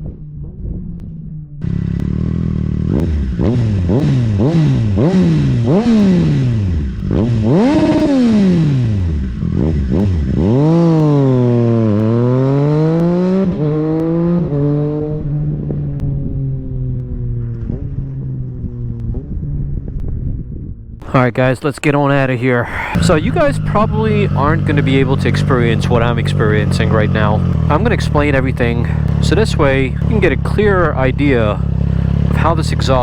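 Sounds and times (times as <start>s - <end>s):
motorcycle engine revving and idling: 0.0s - 21.3s, 22.7s - 33.0s.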